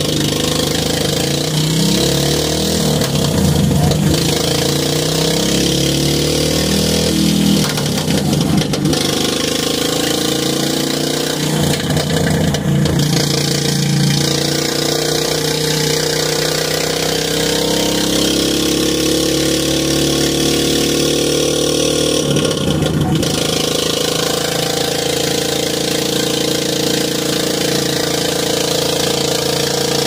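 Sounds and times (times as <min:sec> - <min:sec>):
small engine revving: 0:00.0 - 0:30.0.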